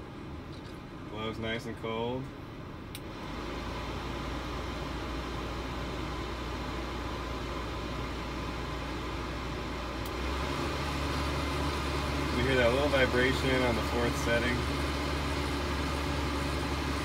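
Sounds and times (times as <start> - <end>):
blower fan blowing air: 0.0 - 17.0.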